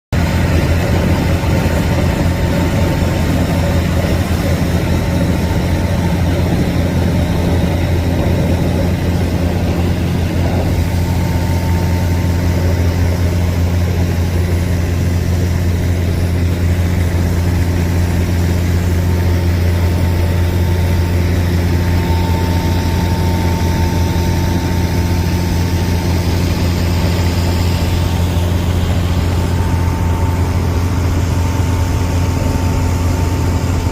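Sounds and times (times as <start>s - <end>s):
boat engine droning: 0.2s - 33.9s.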